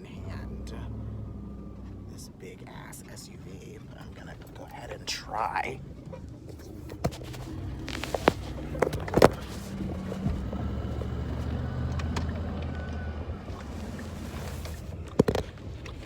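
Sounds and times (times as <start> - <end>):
suv engine humming: 0.0 - 16.0.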